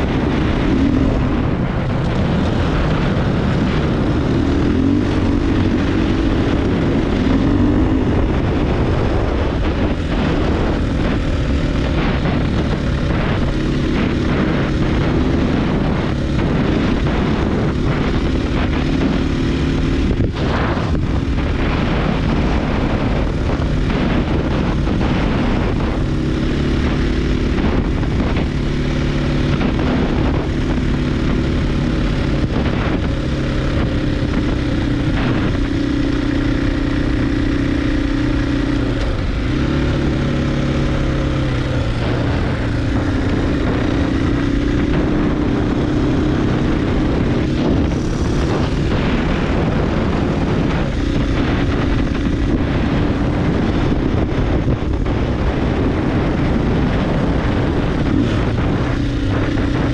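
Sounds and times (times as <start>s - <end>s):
dirt bike engine cruising: 0.0s - 59.9s.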